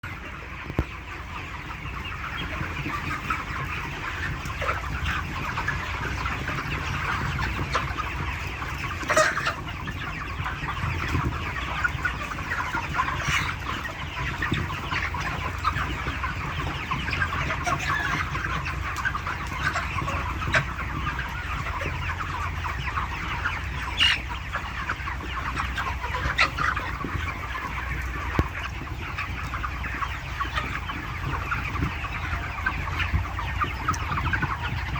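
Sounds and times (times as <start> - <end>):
chickens clucking and cheeping: 0.0 - 34.9.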